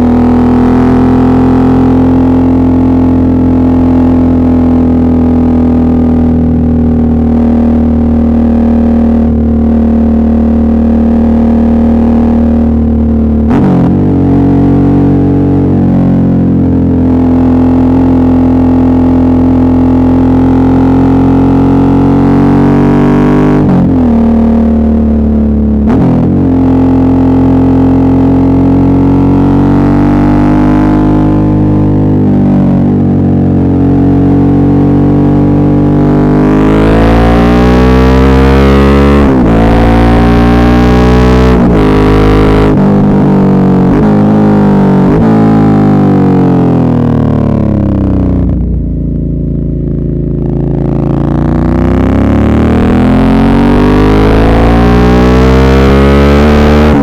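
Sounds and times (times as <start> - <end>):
motorcycle engine droning: 0.0 - 57.0.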